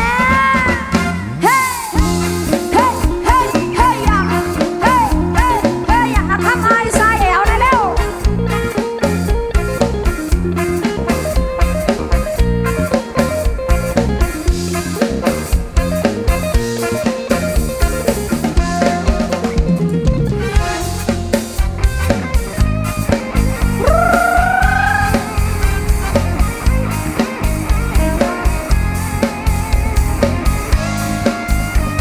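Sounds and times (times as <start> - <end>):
drum kit fast beat: 0.0 - 32.0
guitar: 0.0 - 32.0.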